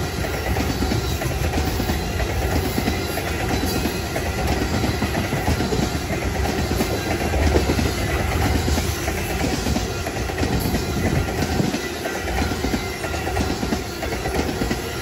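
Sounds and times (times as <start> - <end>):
train wheels rumbling and clicking on rails: 0.0 - 15.0.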